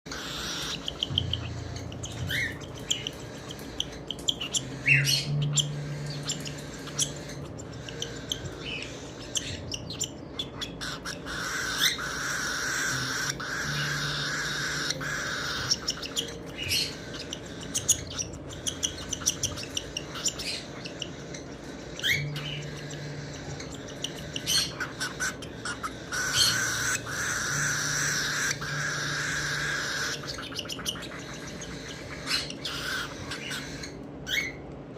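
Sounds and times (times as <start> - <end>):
baby bird raspy begging cries: 0.1 - 34.6.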